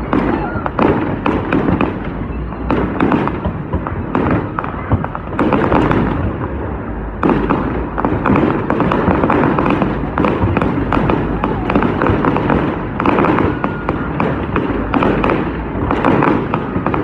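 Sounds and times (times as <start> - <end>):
firework bangs: 0.0 - 17.0
fireworks crackling: 0.0 - 17.0.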